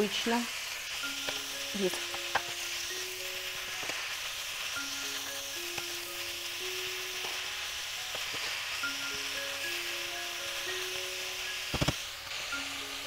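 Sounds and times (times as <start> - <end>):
food sizzling in a frying pan: 0.0 - 13.0
soft background music: 0.0 - 13.0.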